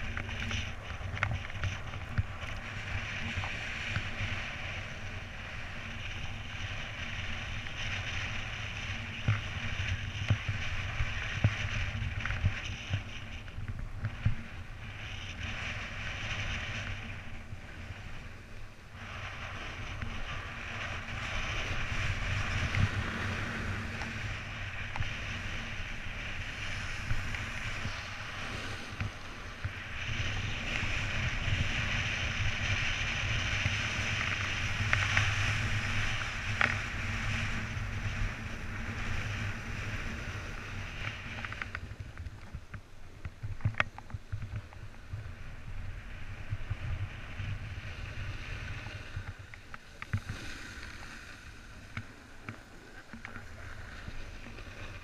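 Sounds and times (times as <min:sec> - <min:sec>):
snowboard scraping over snow: 0:00.0 - 0:55.0
wind on microphone: 0:00.0 - 0:55.0.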